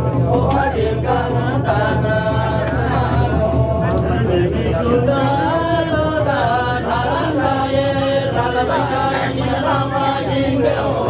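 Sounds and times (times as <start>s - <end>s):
men chanting: 0.0s - 11.0s.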